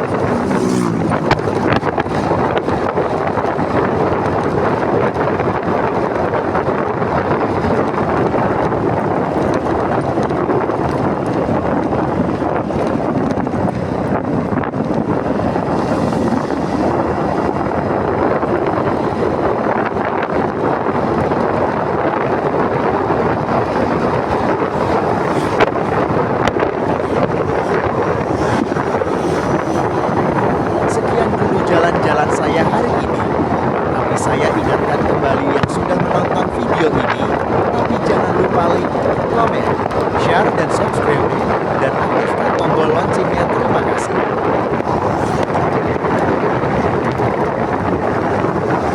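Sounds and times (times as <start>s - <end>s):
motorcycle road noise: 0.0s - 48.9s
wind buffeting microphone: 0.0s - 48.9s.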